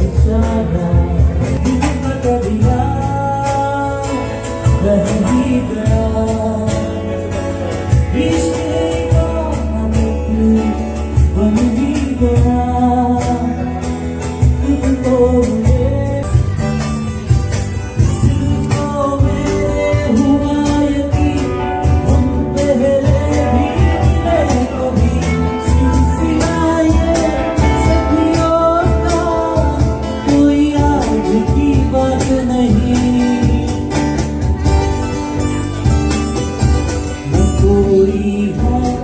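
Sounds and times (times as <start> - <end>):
man singing into a microphone: 0.0 - 16.7, 18.0 - 34.3, 37.2 - 39.0
acoustic guitar: 0.0 - 39.0
drums with a steady beat: 0.0 - 39.0
electric bass: 0.0 - 39.0.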